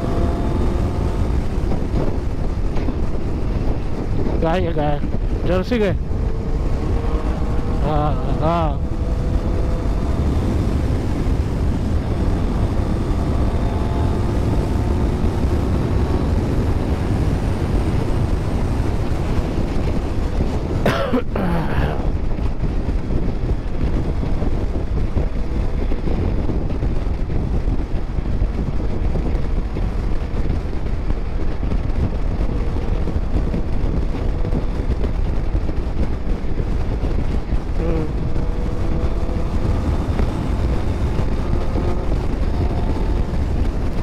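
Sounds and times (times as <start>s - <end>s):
motorcycle engine: 0.0s - 44.0s
wind on microphone: 0.0s - 44.0s.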